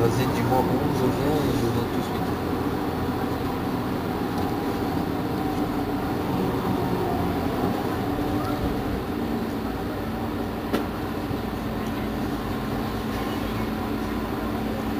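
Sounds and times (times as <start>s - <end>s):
bus engine idling hum: 0.0s - 14.9s.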